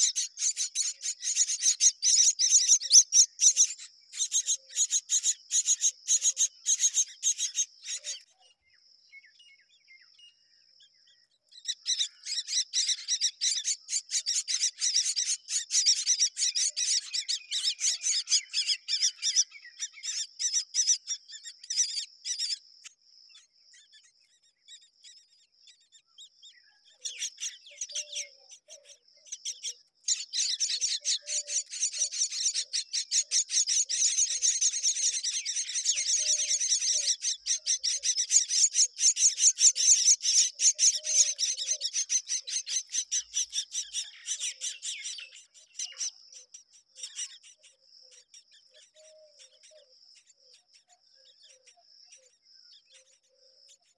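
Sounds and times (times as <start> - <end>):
nestlings chirping raspily: 0.0 - 53.9.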